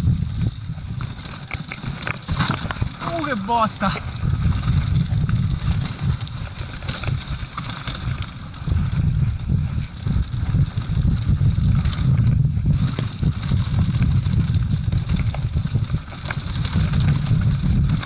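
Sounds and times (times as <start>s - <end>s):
bike clacks and rattles: 0.0s - 18.0s
wind and vibration rumble: 0.0s - 18.0s.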